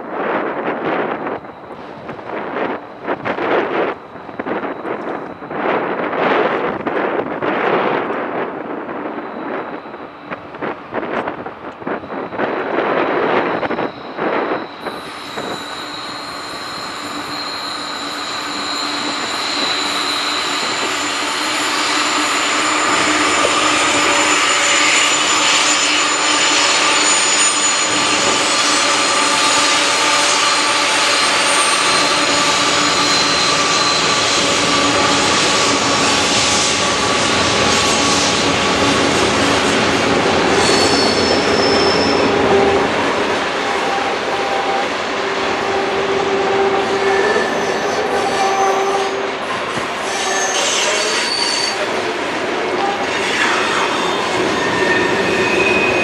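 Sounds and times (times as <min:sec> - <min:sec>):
rumble of train cars: 0:00.0 - 0:56.0
train wheels squealing on rail: 0:00.6 - 0:56.0.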